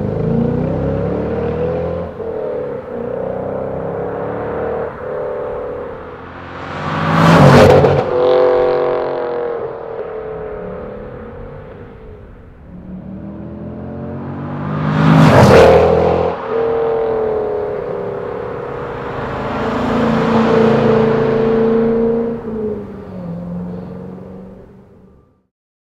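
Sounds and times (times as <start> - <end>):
car engine revving: 0.0 - 25.1.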